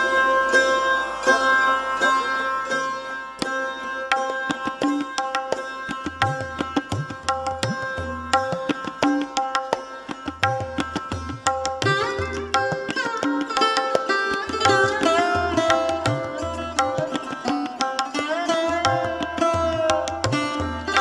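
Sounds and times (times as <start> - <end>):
ringing plucked strings: 0.0 - 21.0
tabla drumming: 3.4 - 21.0.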